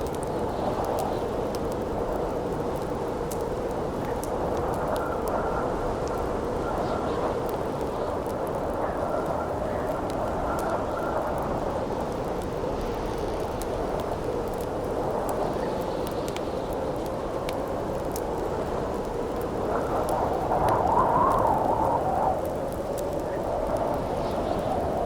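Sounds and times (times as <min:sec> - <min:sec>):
campfire crackling: 0:00.0 - 0:25.0
howling wind: 0:00.0 - 0:25.0.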